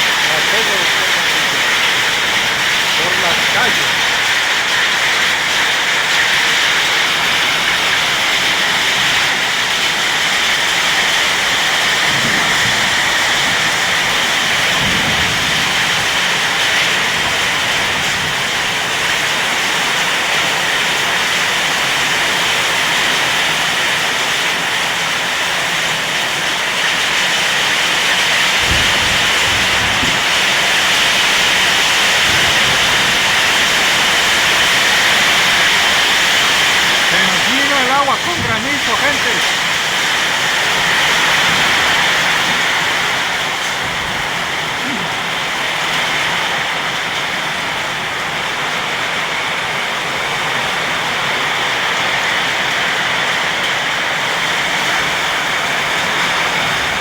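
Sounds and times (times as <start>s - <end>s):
heavy rain and hail: 0.0s - 57.0s.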